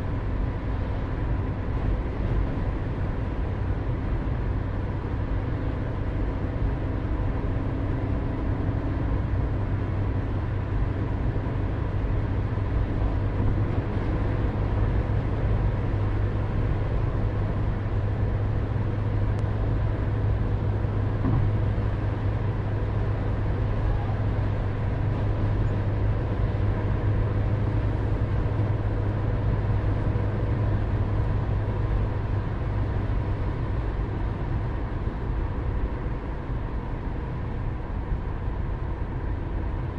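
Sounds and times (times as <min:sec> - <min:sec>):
constant low hum: 0:00.0 - 0:39.9
road and engine noise: 0:00.0 - 0:39.9.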